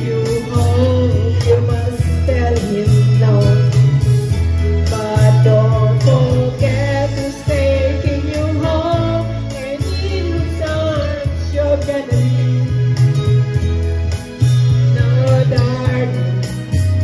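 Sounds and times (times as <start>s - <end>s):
woman singing into microphone: 0.0s - 13.7s, 14.6s - 17.0s
music backing track: 0.0s - 17.0s.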